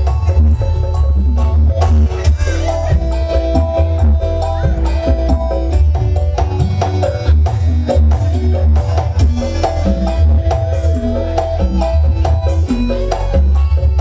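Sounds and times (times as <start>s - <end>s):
electronic keyboard melody: 0.0s - 14.0s
heavy bass: 0.0s - 14.0s
steady percussion beat: 0.0s - 14.0s.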